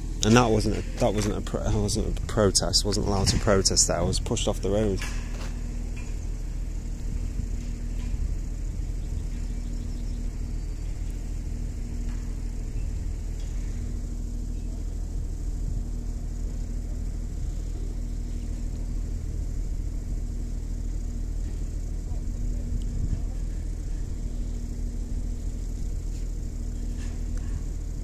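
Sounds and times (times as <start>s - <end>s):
constant low hum: 0.0s - 28.0s
low mechanical rumble: 0.0s - 28.0s.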